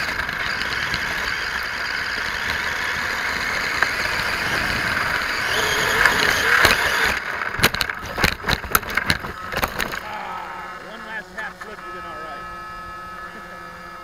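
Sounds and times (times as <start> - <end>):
toy truck tumbling and clattering: 0.0 - 11.8
electric motor whining: 0.0 - 14.0.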